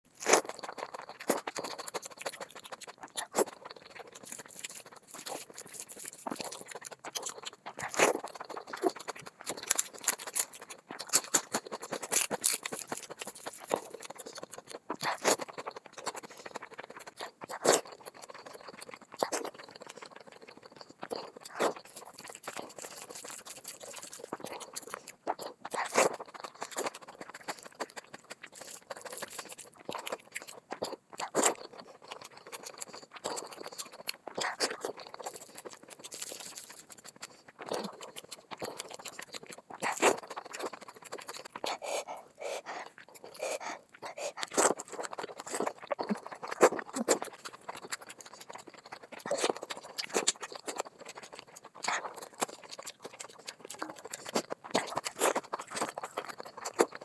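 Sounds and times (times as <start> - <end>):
chewing and mouth smacks: 0.2 - 57.0.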